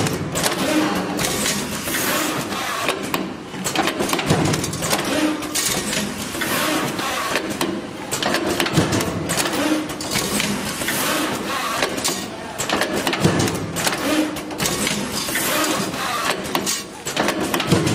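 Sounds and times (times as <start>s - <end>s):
machine clicks and clacks: 0.0s - 17.9s.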